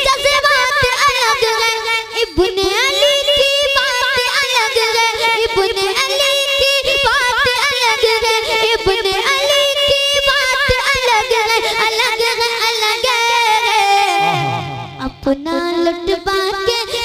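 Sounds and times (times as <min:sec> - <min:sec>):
boy singing into microphone: 0:00.0 - 0:17.0.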